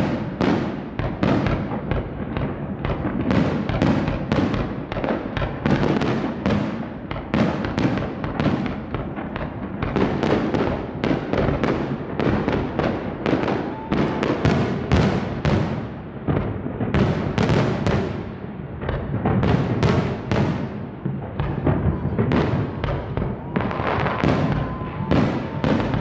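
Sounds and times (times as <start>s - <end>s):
fireworks barrage: 0.0s - 26.0s.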